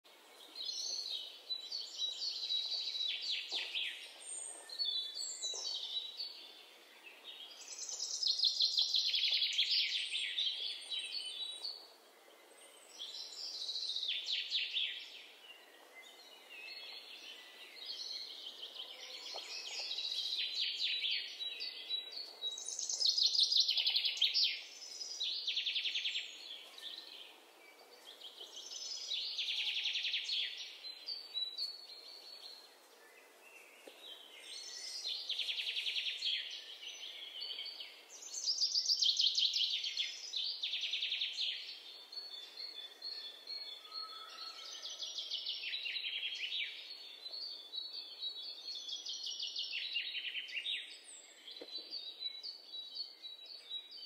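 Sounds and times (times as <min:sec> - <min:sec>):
faint background hiss: 0:00.1 - 0:43.8.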